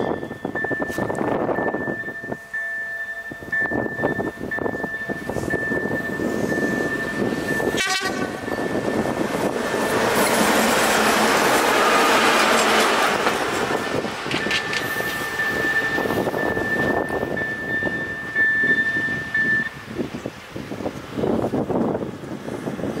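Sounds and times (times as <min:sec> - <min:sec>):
level crossing warning tone: 0:00.0 - 0:19.8
diesel locomotive engine running: 0:00.0 - 0:23.0.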